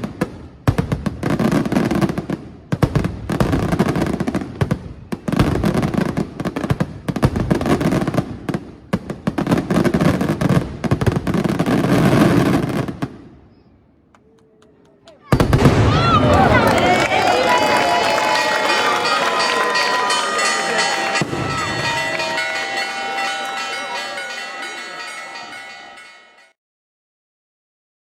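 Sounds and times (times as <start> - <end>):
fireworks bangs: 0.0 - 13.5, 15.2 - 26.5.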